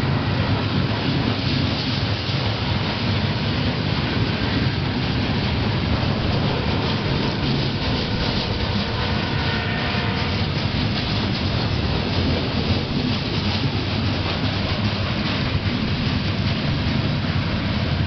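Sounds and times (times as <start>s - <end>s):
steel train wheels on rails: 0.0s - 18.0s.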